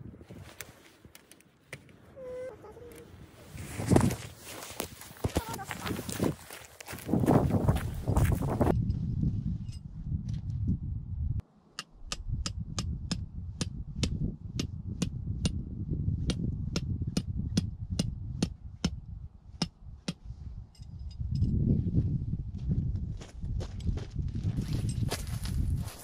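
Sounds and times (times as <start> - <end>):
wind rumble on microphone: 0.0 - 1.2, 2.2 - 11.4, 12.0 - 26.0.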